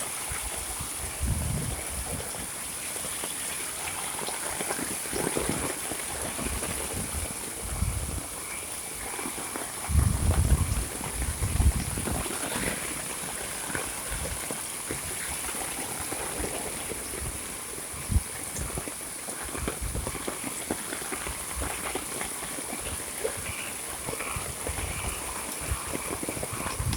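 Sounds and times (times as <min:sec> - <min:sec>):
raindrops striking close by: 0:00.0 - 0:26.9.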